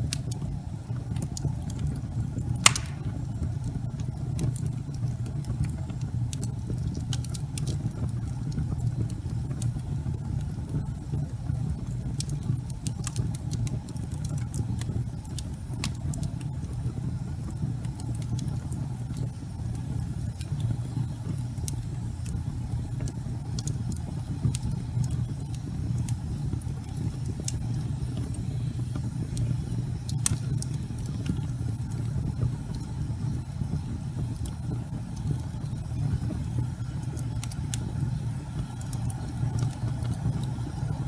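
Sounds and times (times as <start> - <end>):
wood fire rumbling: 0.0 - 3.2, 3.9 - 41.0
crackles and pops of burning logs: 0.0 - 41.0.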